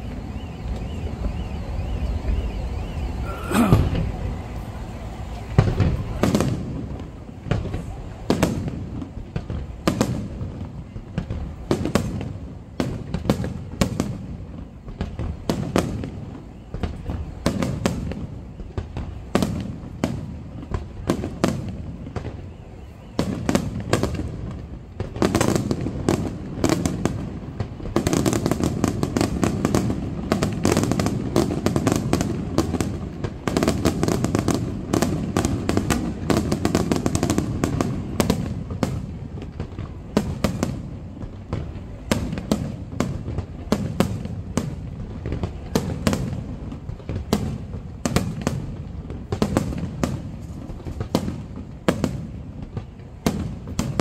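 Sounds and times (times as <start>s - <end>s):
continuous low rumble: 0.0s - 54.0s
fireworks bangs and cracks: 0.0s - 54.0s.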